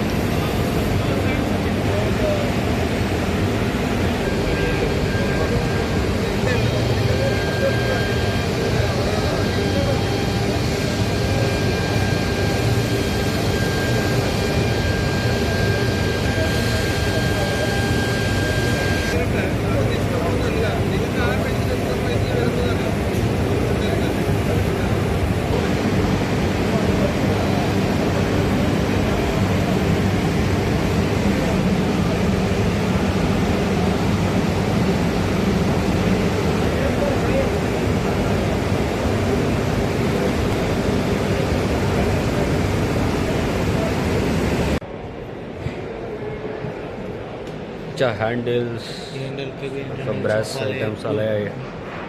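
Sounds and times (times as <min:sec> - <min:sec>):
high-pitched whine: 0:00.0 - 0:44.8
machinery droning: 0:00.0 - 0:44.8
indistinct crowd noise: 0:00.0 - 0:52.0.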